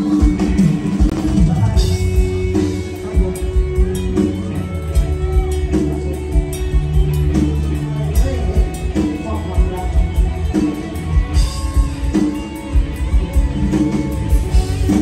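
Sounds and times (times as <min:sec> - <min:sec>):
steady drum beat: 0:00.0 - 0:15.0
sustained bass notes: 0:00.0 - 0:15.0.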